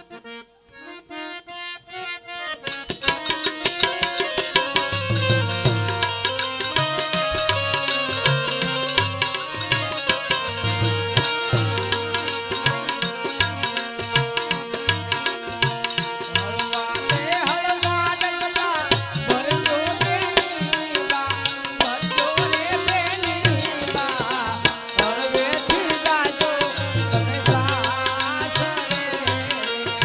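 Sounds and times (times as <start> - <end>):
hand drums beating: 3.0 - 30.0.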